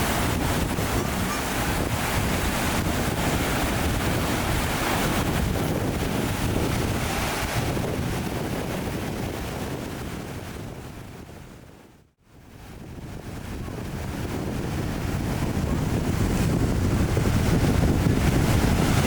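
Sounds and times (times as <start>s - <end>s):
sea waves breaking: 0.0s - 10.6s, 12.5s - 19.0s
wind buffeting microphone: 0.0s - 19.0s.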